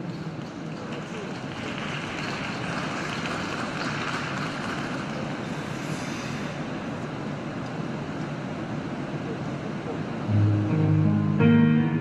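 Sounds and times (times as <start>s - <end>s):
crowd noise in arena: 0.0s - 10.6s.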